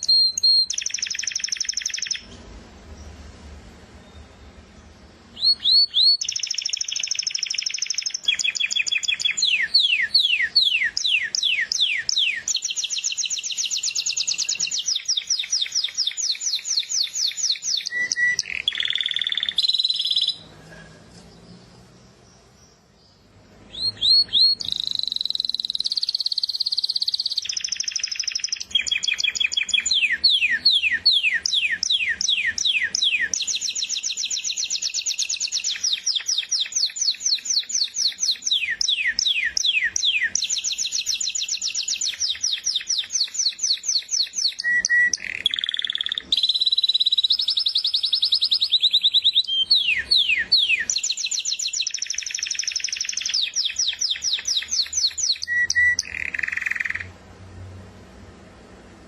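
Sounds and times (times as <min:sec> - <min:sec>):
finch singing fast trills: 0:00.0 - 0:02.3, 0:05.3 - 0:20.4, 0:23.7 - 0:57.1.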